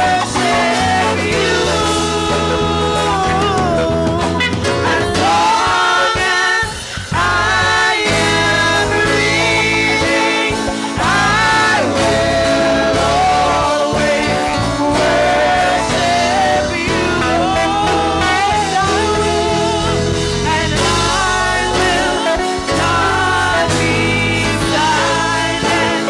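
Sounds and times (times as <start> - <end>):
instrumental accompaniment: 0.0 - 26.0
women singing gospel song: 0.0 - 26.0.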